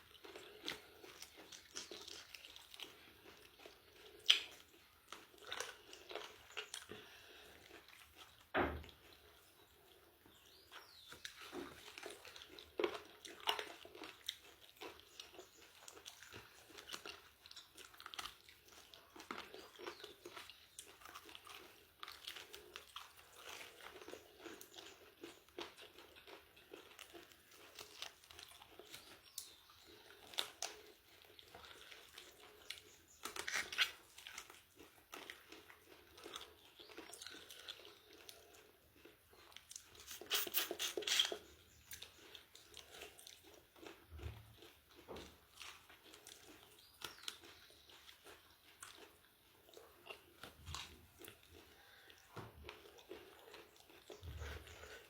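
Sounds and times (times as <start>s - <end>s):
crunching and chewing: 0.0s - 55.0s.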